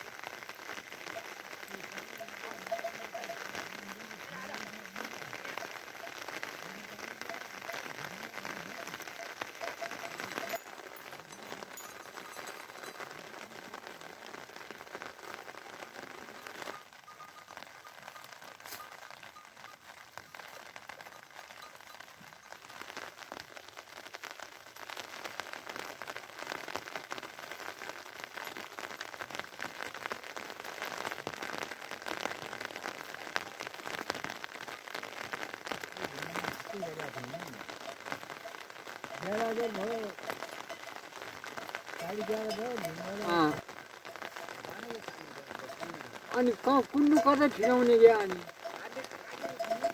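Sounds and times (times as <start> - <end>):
rain falling steadily: 0.0 - 49.9.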